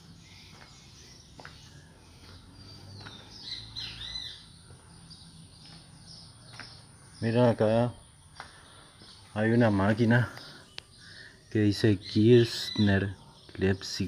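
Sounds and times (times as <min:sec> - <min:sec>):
birds whistling: 0:00.0 - 0:14.0.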